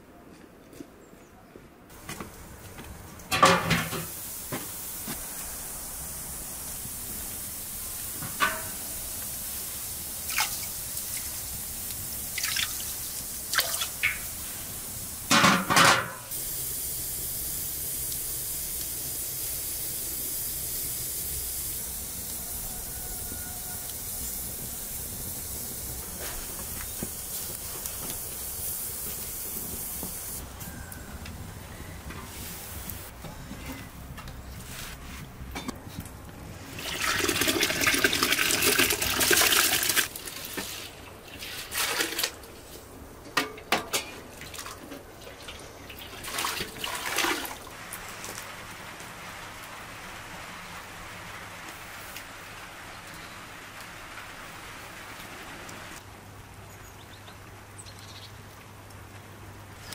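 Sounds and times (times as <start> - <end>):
fire and simmering hiss: 1.9 - 59.9.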